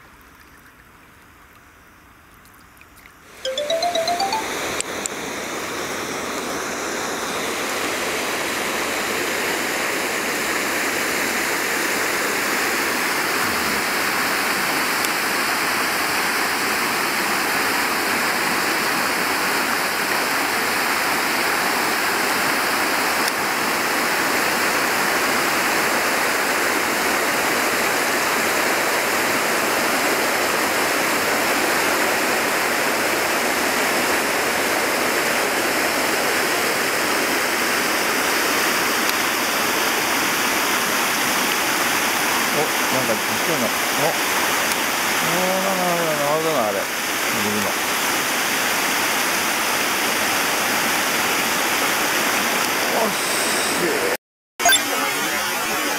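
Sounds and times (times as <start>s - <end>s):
flowing water rushing: 5.8s - 55.9s.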